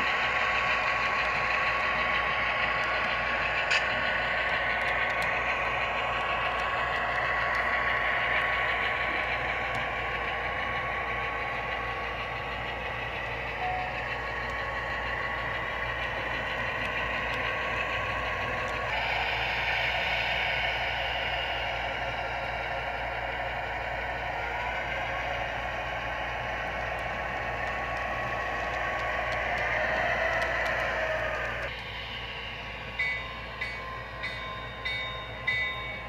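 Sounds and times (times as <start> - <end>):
diesel engine sound through small speaker: 0.0 - 36.0.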